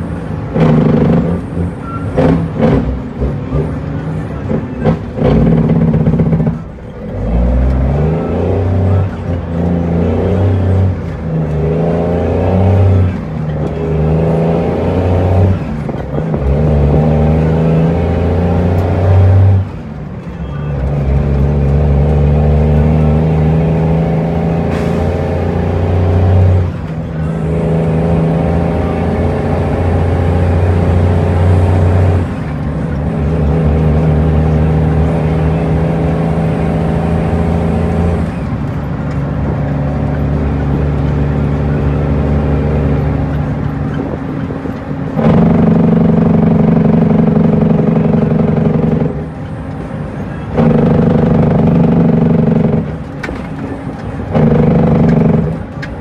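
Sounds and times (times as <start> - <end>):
truck diesel engine shifting gears: 0.0 - 56.0.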